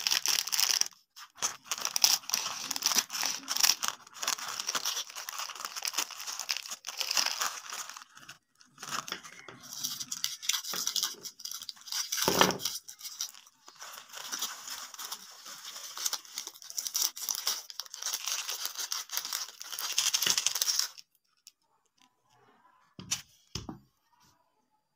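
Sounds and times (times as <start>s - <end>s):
plastic wrappers crinkling: 0.0s - 22.0s.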